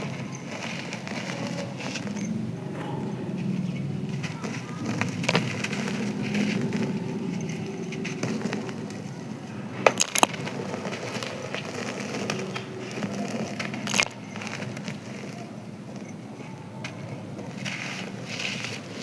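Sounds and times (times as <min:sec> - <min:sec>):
sharp clinks: 0:00.0 - 0:17.8
dry cement crumbling: 0:00.0 - 0:19.0.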